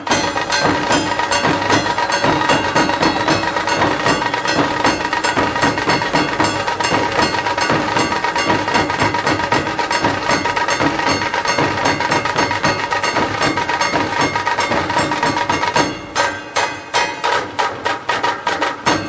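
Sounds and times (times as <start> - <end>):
percussion beat: 0.0 - 19.0.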